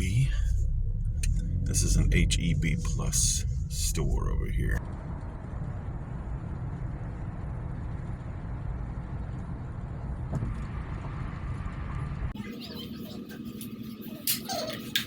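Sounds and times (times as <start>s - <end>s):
road and engine rumble in car: 0.0s - 13.2s.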